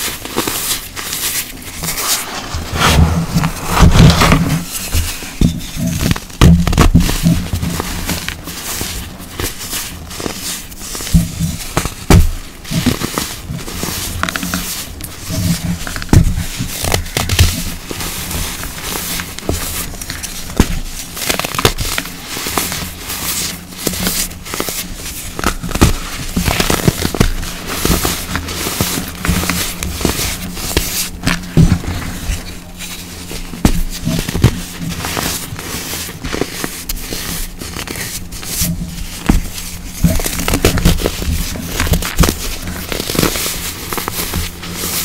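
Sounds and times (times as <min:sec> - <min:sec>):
baking soda crunching in hands: 0:00.0 - 0:45.0.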